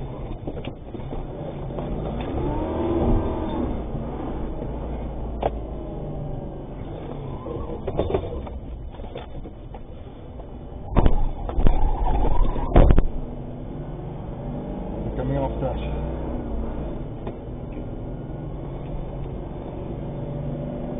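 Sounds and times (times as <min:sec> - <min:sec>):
vehicle rumble: 0:00.0 - 0:20.9.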